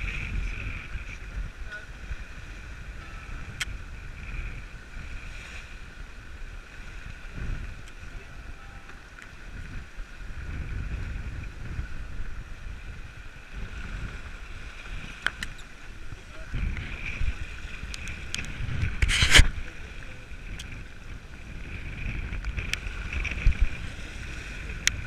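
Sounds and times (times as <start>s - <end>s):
water splashing along hull: 0.0s - 25.0s
wind buffeting microphone: 0.0s - 25.0s.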